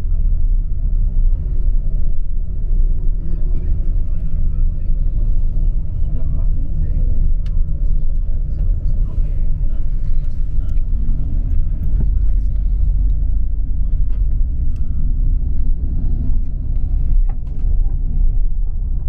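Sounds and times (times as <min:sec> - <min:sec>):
coach engine and road rumble: 0:00.0 - 0:19.0.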